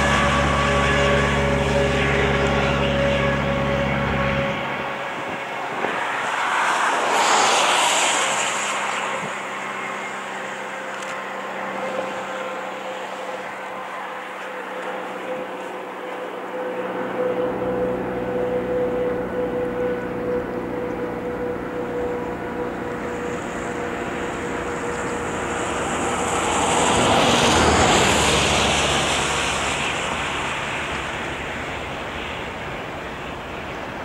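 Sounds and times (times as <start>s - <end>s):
locomotive diesel engine drone: 0.0s - 34.0s
rushing noise: 0.0s - 34.0s.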